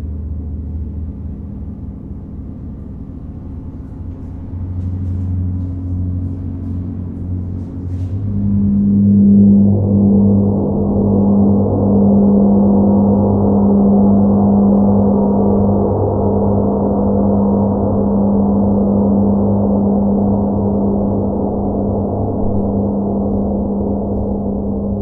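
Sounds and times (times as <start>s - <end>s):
gong ringing: 0.0s - 25.0s.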